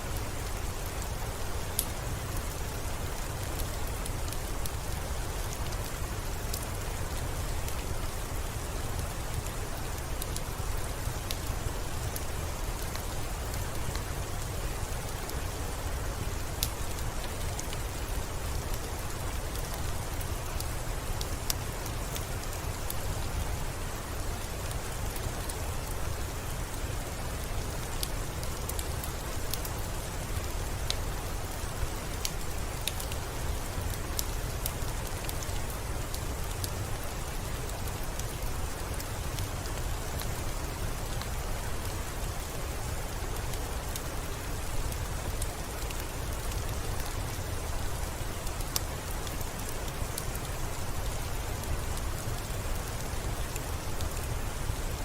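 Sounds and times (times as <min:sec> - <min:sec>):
rain pattering on a window: 0:00.0 - 0:55.0.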